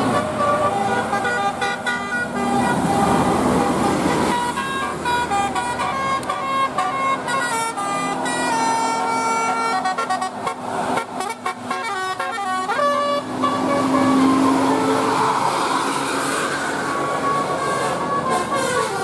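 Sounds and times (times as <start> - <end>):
multi-tone musical air horns: 0.0 - 19.0.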